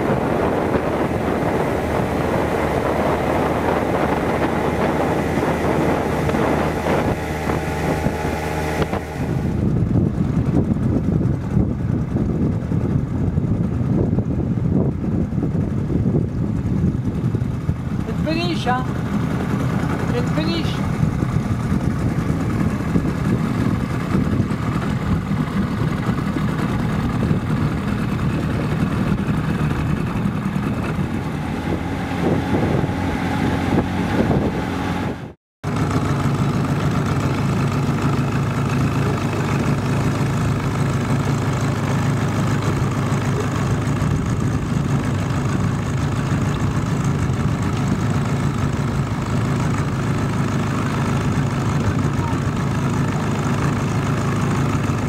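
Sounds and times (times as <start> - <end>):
boat motor running: 0.0 - 55.0.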